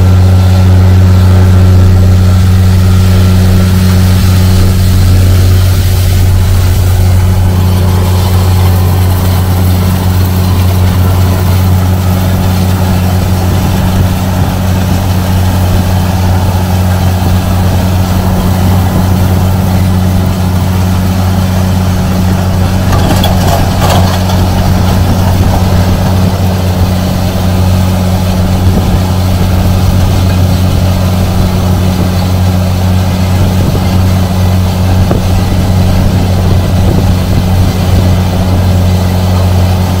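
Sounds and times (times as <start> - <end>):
tractor diesel engine droning: 0.0 - 40.0.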